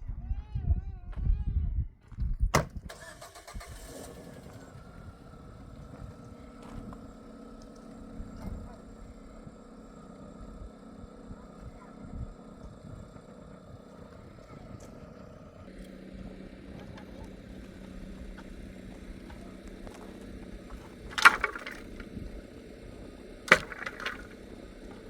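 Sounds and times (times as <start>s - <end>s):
engine running low rumble: 0.0s - 25.0s.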